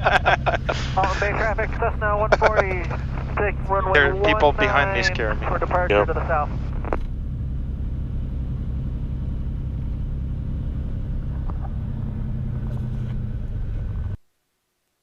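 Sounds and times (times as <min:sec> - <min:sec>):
propeller plane engine droning: 0:00.0 - 0:14.2.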